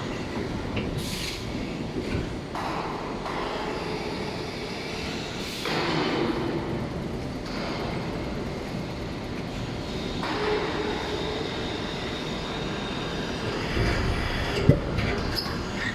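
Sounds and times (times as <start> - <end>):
machine whirring and rumbling: 0.0 - 15.9.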